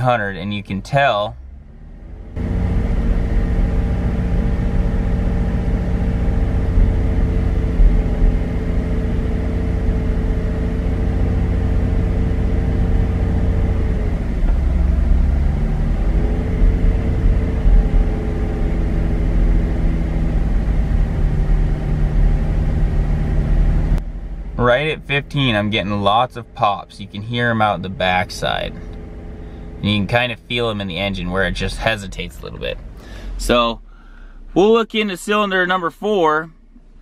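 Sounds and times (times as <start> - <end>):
car engine fast idle: 1.4 - 34.7.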